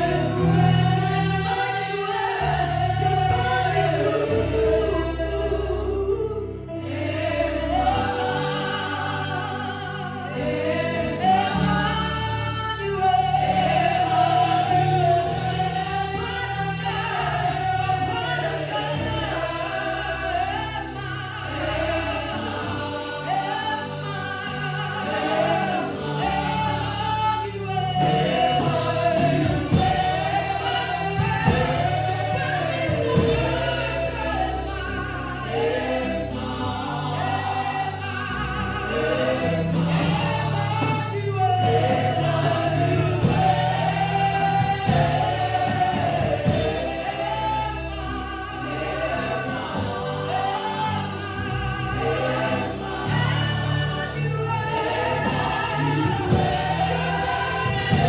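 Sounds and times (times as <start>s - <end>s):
choir singing worship song: 0.0s - 58.0s
instrumental backing with bass: 0.0s - 58.0s.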